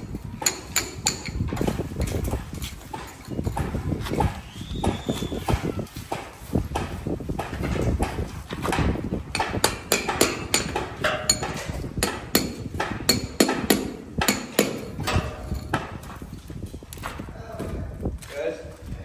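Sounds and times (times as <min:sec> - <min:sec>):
hammer blows with metallic ring: 0:00.4 - 0:16.0.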